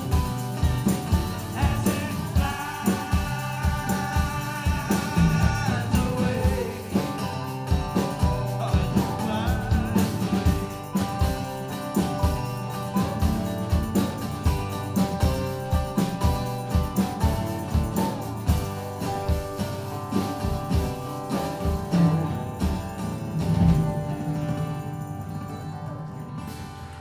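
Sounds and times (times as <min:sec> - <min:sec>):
steady beat: 0:00.0 - 0:26.6
lap steel guitar sliding lead: 0:00.0 - 0:27.0
strummed acoustic guitar: 0:00.0 - 0:27.0.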